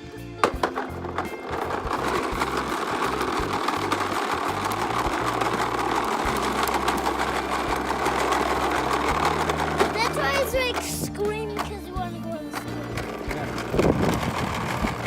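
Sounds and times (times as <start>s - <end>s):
background music with bass: 0.0s - 15.0s
toy lawn mower rattling: 0.0s - 15.0s.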